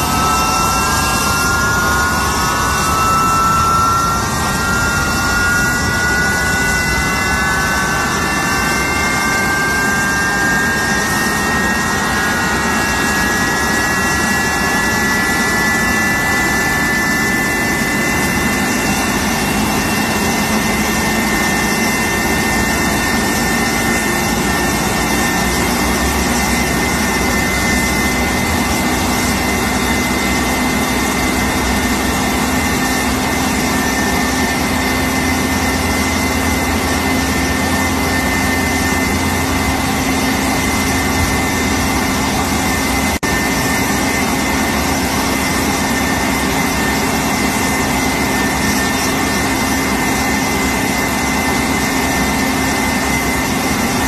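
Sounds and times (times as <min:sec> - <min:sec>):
jet engine high whine: 0:00.0 - 0:54.0.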